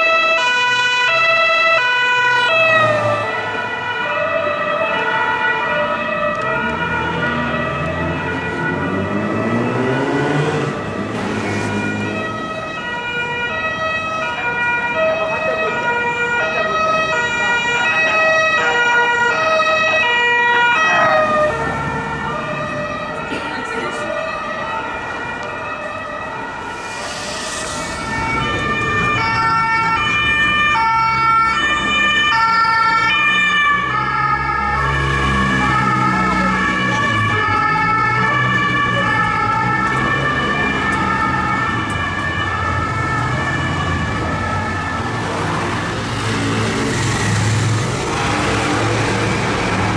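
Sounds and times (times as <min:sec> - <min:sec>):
traffic engines rumbling: 0:00.0 - 0:49.9.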